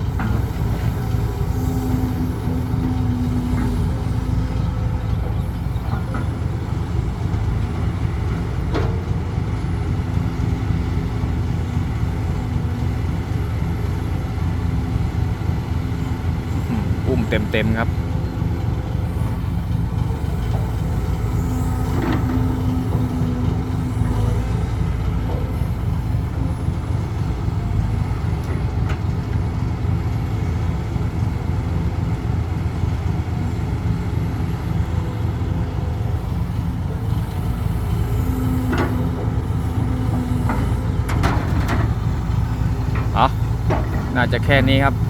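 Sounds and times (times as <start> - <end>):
hydraulic droning tone: 0.0 - 31.3, 33.0 - 45.0
heavy diesel engines running: 0.0 - 45.0.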